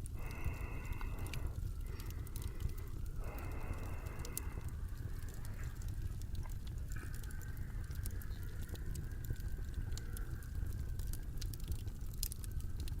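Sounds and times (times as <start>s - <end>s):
crackles and clicks: 0.0s - 13.0s
steady low rumble: 0.0s - 13.0s.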